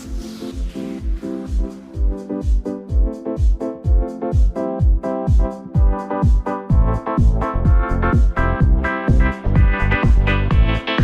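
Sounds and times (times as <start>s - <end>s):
electronic music: 0.0s - 11.0s
keyboard chords: 0.0s - 11.0s
kick drum beat: 0.0s - 11.0s.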